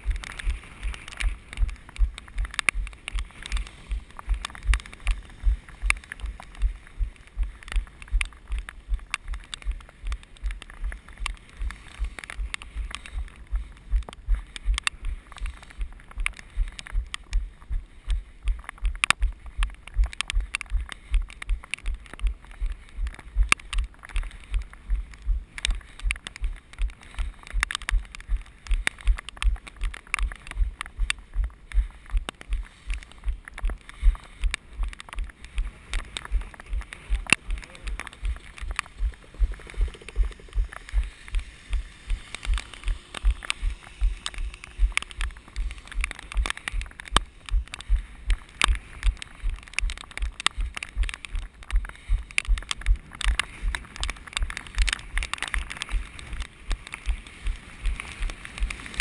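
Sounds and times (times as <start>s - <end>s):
running footsteps: 0.0s - 59.0s.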